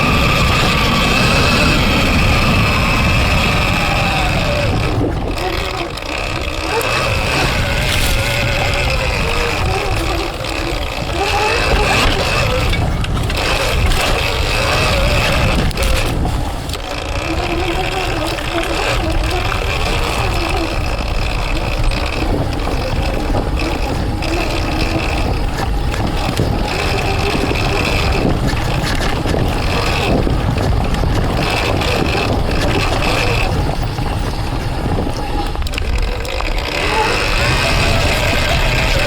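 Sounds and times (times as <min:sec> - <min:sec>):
electric motor whining: 0:00.0 - 0:39.0
low rumble from rough ground: 0:00.0 - 0:39.0.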